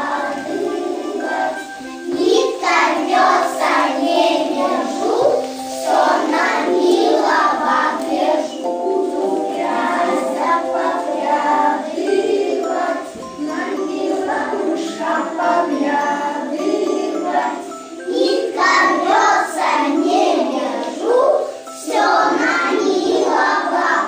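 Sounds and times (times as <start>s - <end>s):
musical accompaniment: 0.0s - 24.0s
young children singing: 0.0s - 24.0s.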